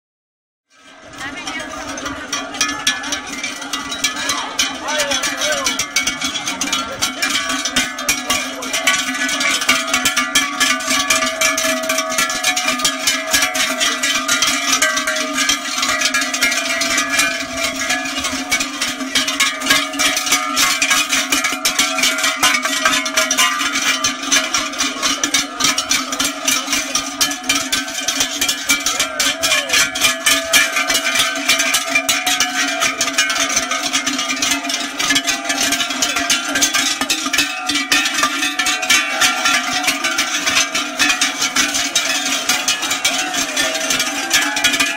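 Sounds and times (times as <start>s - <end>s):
cowbells clanging: 0.7s - 44.9s.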